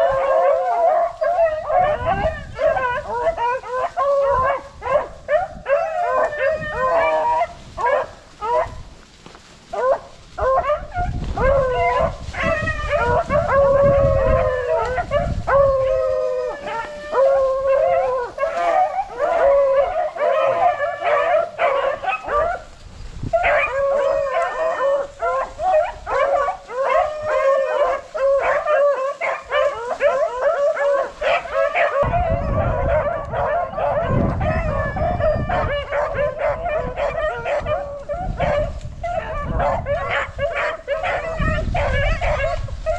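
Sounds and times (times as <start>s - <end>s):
hounds baying: 0.0s - 42.9s.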